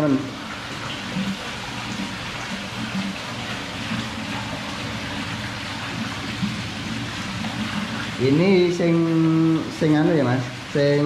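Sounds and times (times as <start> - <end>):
water pouring into a pond: 0.0 - 11.0.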